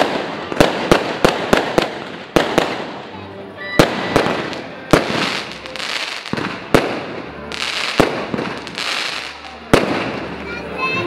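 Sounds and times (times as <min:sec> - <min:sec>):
fireworks banging: 0:00.0 - 0:11.0
fireworks crackling: 0:00.0 - 0:11.0.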